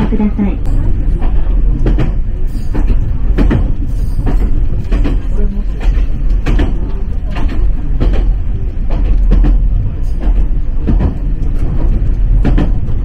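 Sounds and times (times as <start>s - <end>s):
train rumble inside car: 0.0s - 13.0s
wheels clacking on track: 0.0s - 13.0s.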